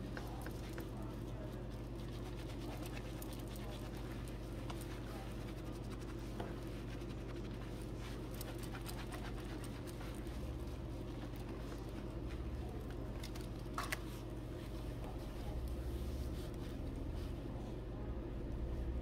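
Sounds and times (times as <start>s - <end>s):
wet squishing of shampoo lather: 0.0s - 17.4s
steady low hum: 0.0s - 19.0s.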